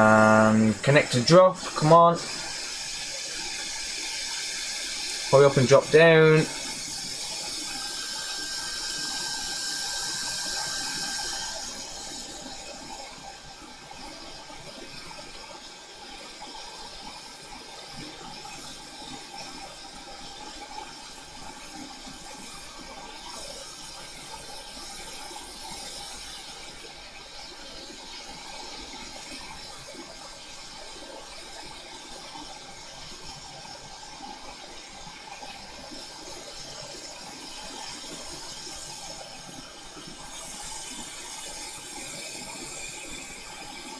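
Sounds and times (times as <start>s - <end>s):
hot air station hissing: 0.0s - 14.9s, 15.6s - 32.9s, 33.6s - 43.9s.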